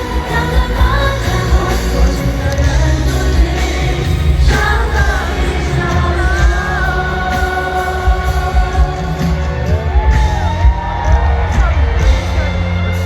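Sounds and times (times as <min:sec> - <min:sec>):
heavy bass: 0:00.0 - 0:13.0
live pop concert music: 0:00.0 - 0:13.0.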